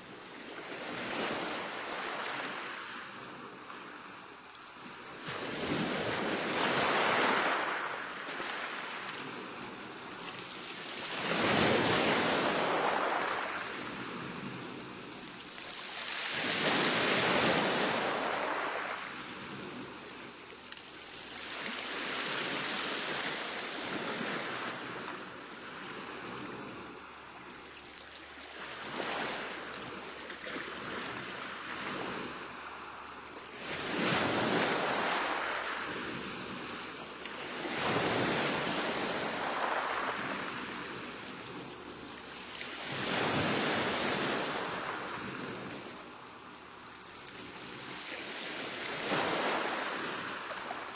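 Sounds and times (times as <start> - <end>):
waves breaking: 0.3 - 50.9.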